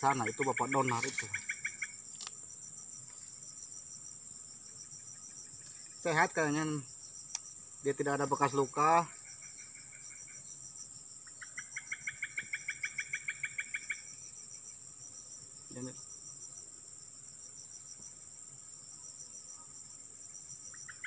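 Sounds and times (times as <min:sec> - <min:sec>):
pulsing insect chirping call: 0:00.0 - 0:21.0
shrill insect chorus: 0:00.0 - 0:21.0.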